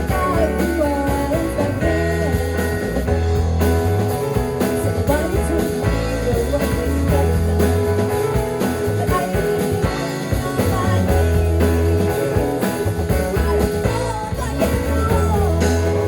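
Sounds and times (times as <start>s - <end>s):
steady drum beat: 0.0s - 16.0s
sustained bass notes: 0.0s - 16.0s.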